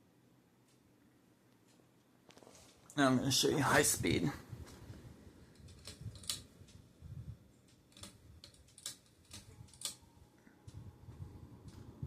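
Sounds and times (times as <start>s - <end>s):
ceiling fan rumbling: 0.0s - 12.0s.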